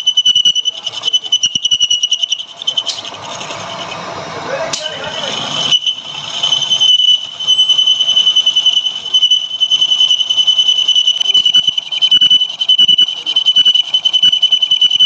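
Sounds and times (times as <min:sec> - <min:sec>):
lathe tool squealing on metal: 0:00.0 - 0:15.0.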